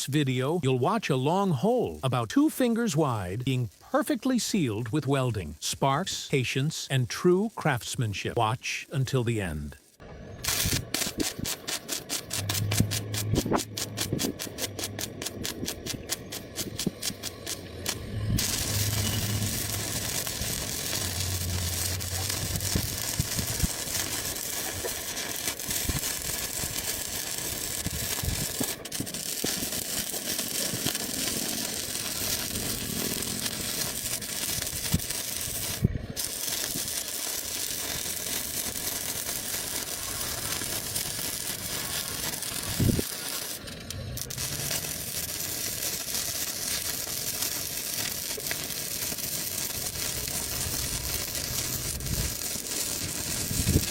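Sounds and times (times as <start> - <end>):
arc welding crackling: 8.7 - 53.9.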